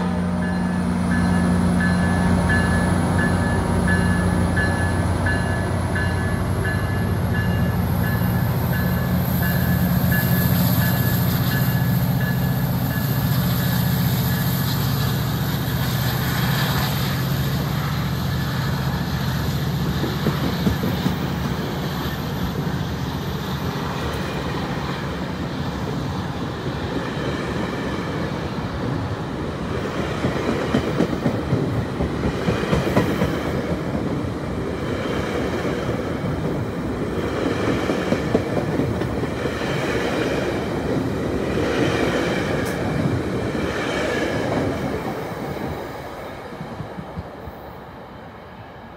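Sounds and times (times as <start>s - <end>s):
train wheels clattering on rails: 0.4s - 25.0s, 29.7s - 46.0s.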